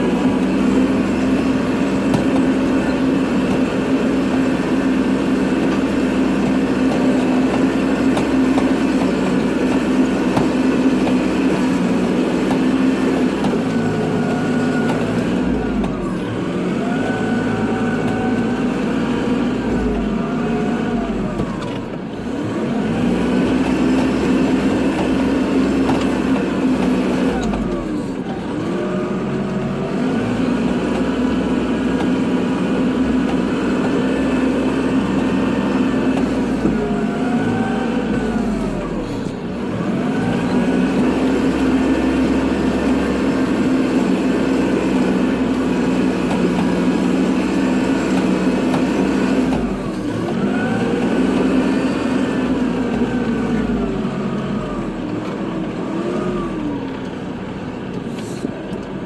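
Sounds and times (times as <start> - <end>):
engine whine: 0.0 - 59.0
tractor diesel engine running: 0.0 - 59.0.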